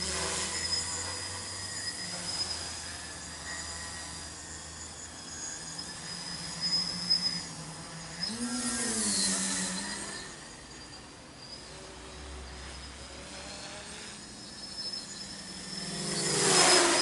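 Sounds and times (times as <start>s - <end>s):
drone motors buzzing: 0.0s - 17.0s.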